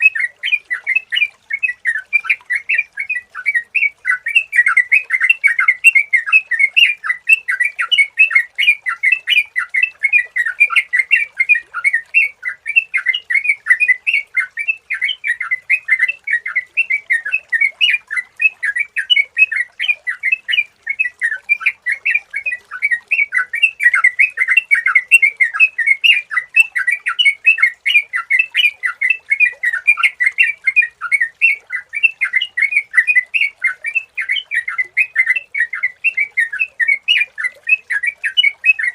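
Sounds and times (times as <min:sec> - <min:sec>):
bulbul chirping song: 0:00.0 - 0:38.9.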